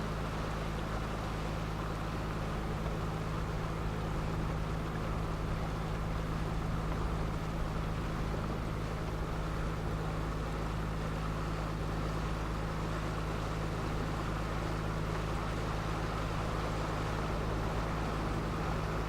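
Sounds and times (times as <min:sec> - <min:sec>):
motorboat engine drone: 0:00.0 - 0:19.0.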